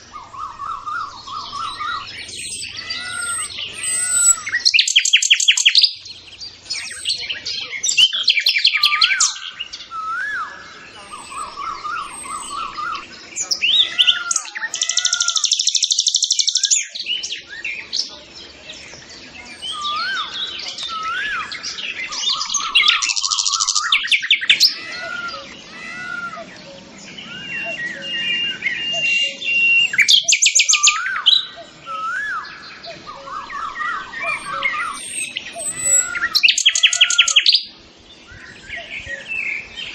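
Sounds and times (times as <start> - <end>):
birds trilling chatter: 0.0 - 39.9
birds whistling: 0.0 - 39.9.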